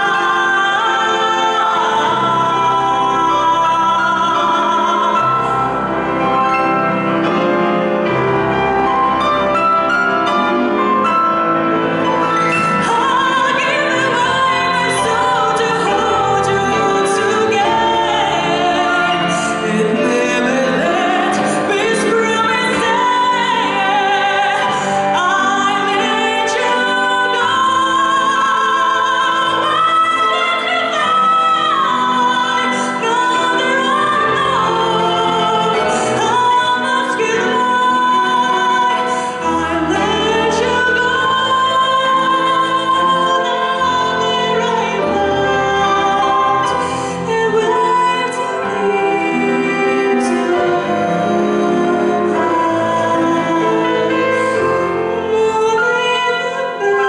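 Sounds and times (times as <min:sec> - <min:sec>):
woman singing operatically: 0:00.0 - 0:06.0, 0:12.2 - 0:57.0
grand piano: 0:00.0 - 0:57.0.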